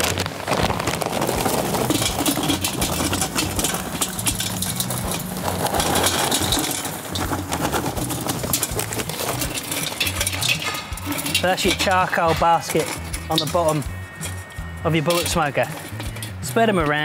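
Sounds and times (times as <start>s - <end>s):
charcoal clattering into metal ring: 0.8s - 17.0s.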